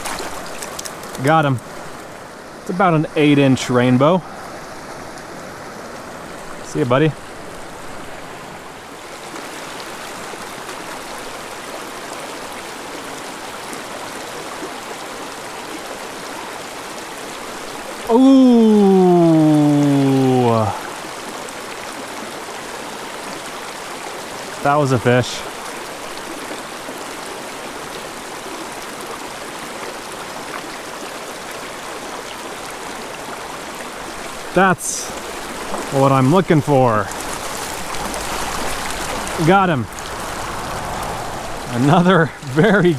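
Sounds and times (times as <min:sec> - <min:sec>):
stream flowing over rocks: 0:00.0 - 0:42.9.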